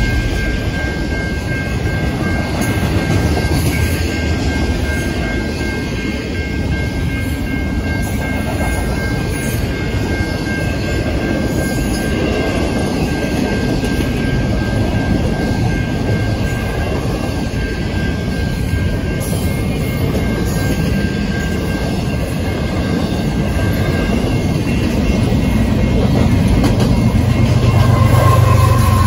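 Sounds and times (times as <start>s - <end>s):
freight train wheels rumbling: 0.0s - 29.0s
high-pitched tone: 0.0s - 29.0s.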